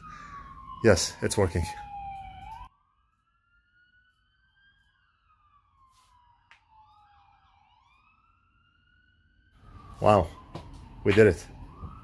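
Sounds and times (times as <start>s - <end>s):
faint siren wailing: 0.0s - 12.0s.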